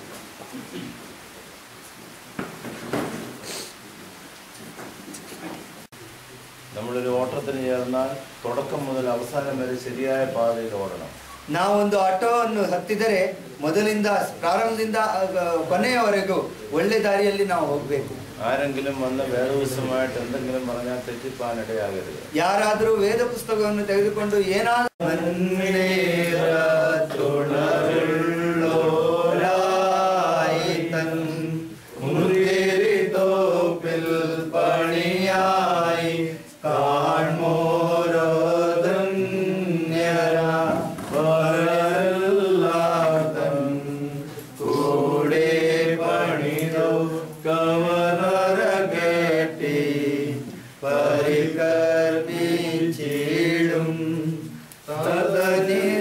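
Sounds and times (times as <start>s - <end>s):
voices chanting a hymn: 6.8s - 56.0s.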